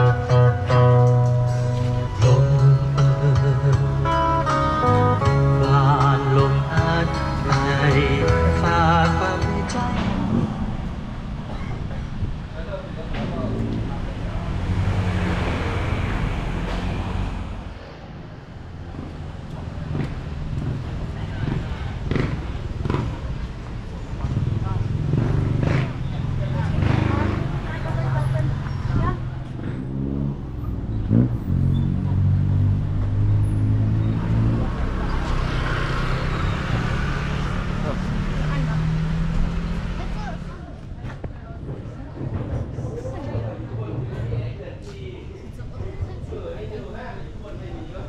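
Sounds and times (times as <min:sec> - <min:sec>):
vehicle engine droning: 0:00.0 - 0:44.6.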